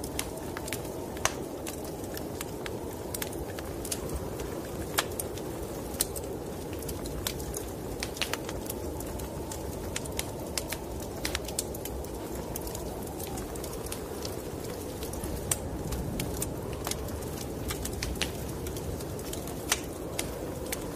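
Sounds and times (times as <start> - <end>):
snowstorm wind rushing: 0.0 - 20.9
wood fire crackling: 0.0 - 20.9.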